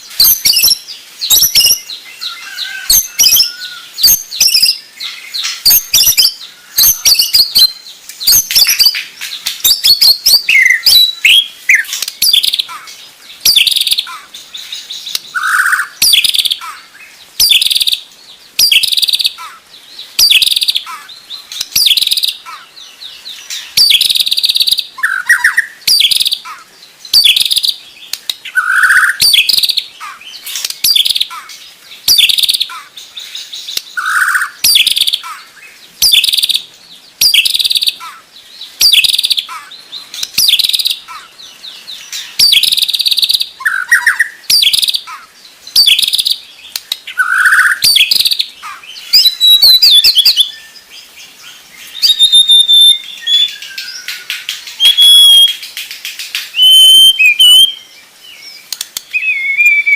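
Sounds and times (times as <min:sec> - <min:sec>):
songbird singing high notes: 0:00.0 - 0:59.9.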